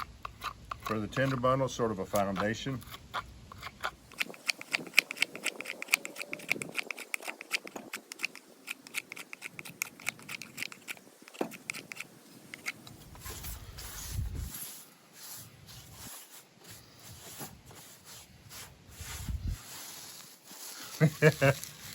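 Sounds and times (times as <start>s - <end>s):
knife scraping wood: 0.0s - 21.9s.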